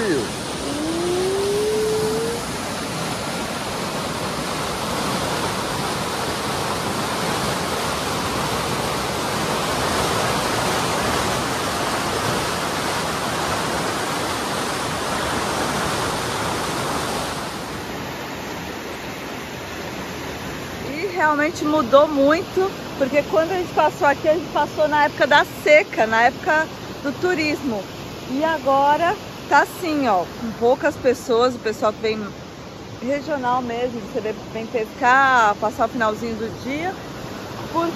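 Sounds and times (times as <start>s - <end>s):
river rushing: 0.0s - 37.9s.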